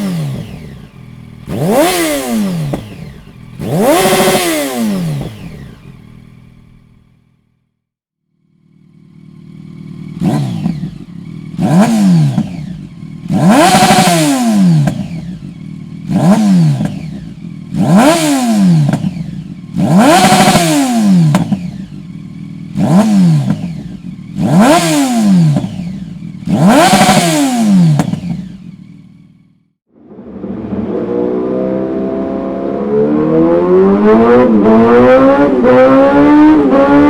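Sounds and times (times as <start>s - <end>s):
motorcycle engine revving: 0.0s - 7.8s, 8.4s - 37.0s.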